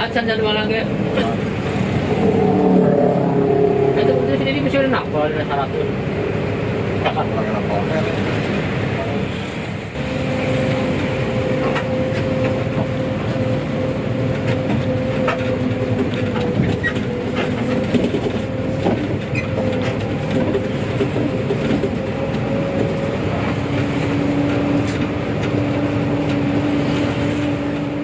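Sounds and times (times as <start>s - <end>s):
diesel bus engine droning: 0.0s - 28.0s
engine whine: 0.0s - 28.0s.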